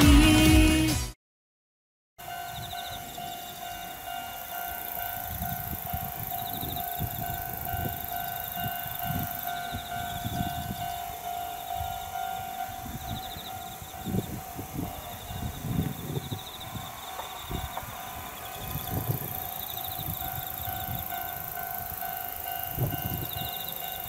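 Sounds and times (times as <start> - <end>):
level crossing alarm ringing: 2.2 - 24.0.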